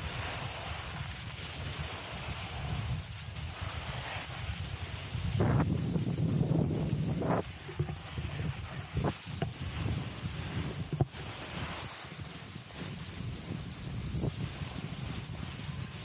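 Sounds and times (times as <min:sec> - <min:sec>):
snowboard scraping over snow: 0:00.0 - 0:16.0
wind buffeting microphone: 0:01.0 - 0:16.0.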